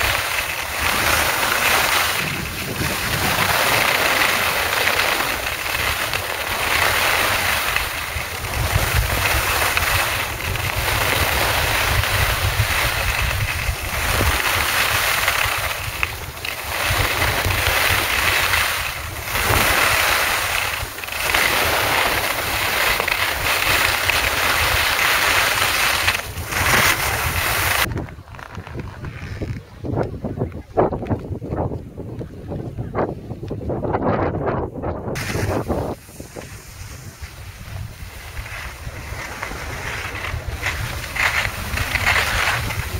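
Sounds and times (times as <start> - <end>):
skis hissing over snow: 0.0 - 27.9, 35.2 - 42.9
wind buffeting microphone: 0.0 - 42.9.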